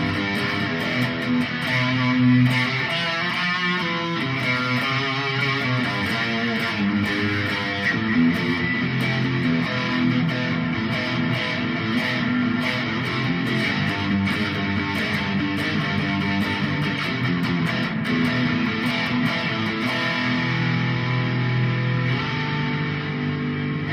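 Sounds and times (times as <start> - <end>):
electric guitar strumming chords: 0.0 - 23.9.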